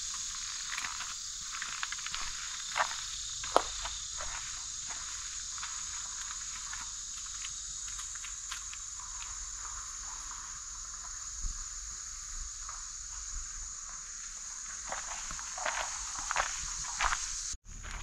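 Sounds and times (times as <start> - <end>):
faint ticks and scuffs: 0.0 - 18.0
insect chorus: 0.0 - 18.0.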